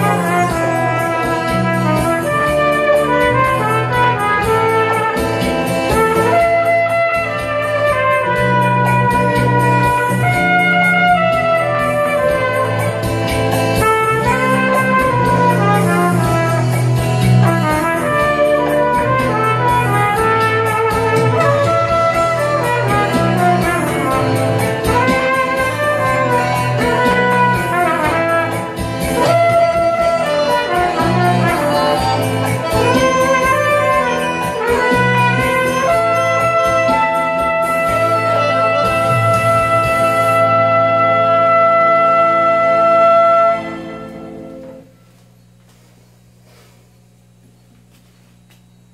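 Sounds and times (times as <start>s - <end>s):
steady bass line: 0.0s - 45.6s
trumpet melody: 0.0s - 45.6s.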